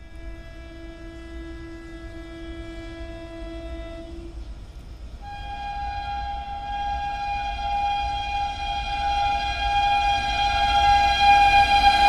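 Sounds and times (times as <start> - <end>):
train horn: 0.0 - 12.0.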